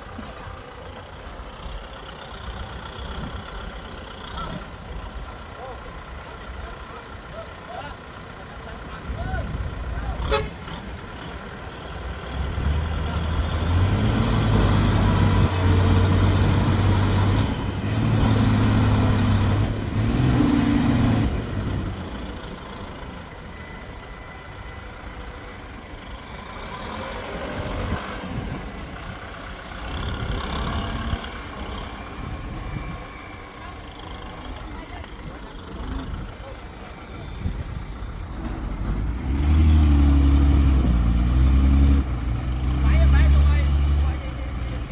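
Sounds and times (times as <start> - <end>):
heavy diesel engine revving: 0.9 - 23.4, 25.0 - 44.9.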